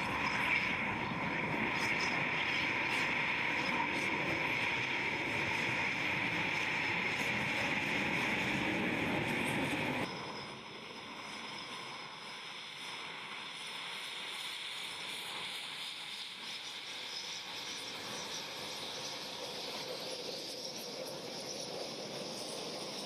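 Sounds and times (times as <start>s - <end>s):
jet engine whine and rush: 0.0s - 23.0s.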